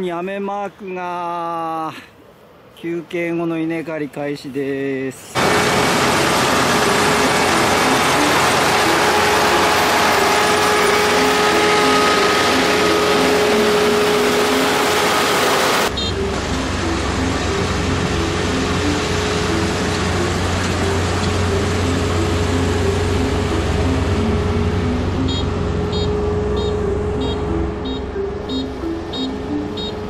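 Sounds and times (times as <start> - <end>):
combine harvester running: 5.4 - 30.0.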